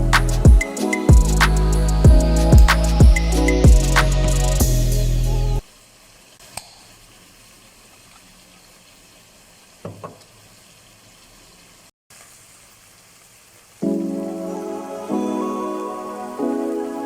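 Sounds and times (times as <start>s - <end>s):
food cooking hiss: 0.0s - 17.0s.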